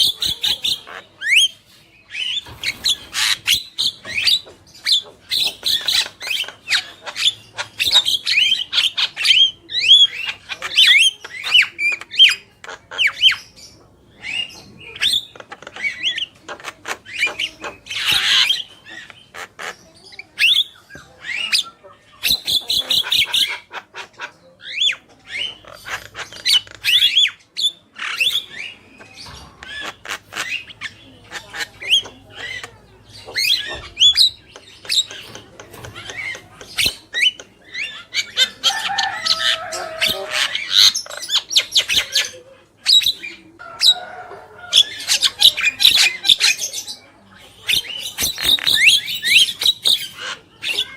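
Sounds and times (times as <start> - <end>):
mynas calling: 0.0 - 50.9.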